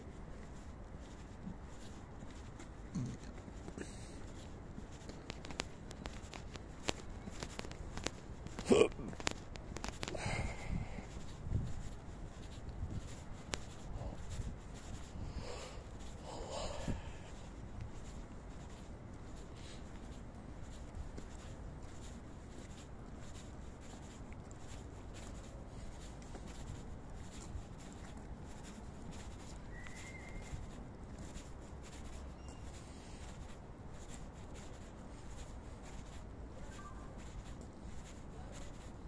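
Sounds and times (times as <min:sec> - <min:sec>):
footsteps on pavement: 0:00.0 - 0:39.0.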